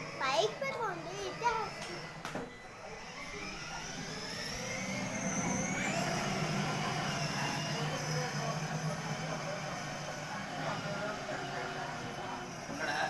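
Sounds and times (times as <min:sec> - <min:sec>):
toy car electric motor whine: 0:00.0 - 0:13.0.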